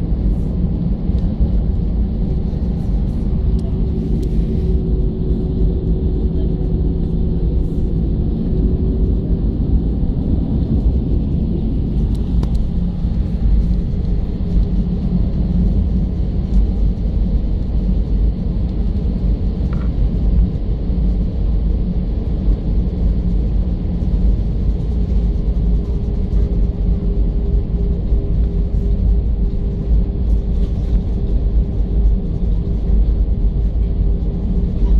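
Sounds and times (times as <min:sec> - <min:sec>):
airplane cabin rumble: 0:00.0 - 0:34.9
steady hum: 0:00.0 - 0:34.9.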